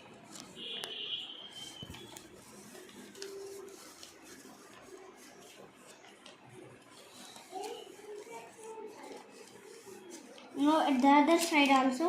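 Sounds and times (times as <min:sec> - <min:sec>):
paper crinkling: 0:01.6 - 0:12.0.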